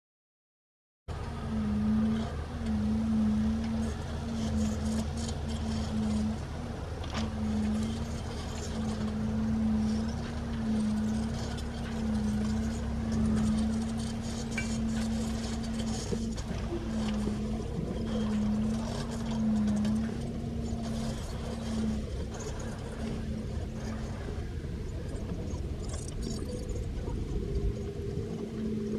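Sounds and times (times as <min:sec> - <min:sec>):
engine humming: 0:01.1 - 0:28.9.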